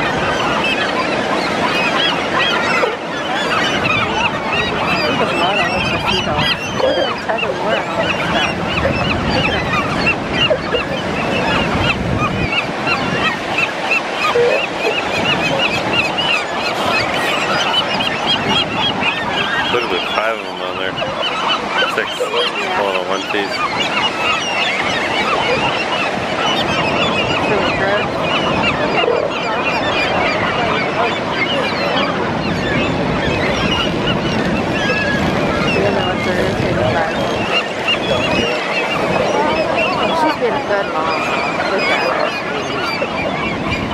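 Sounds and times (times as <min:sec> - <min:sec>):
gulls calling: 0:00.0 - 0:43.9.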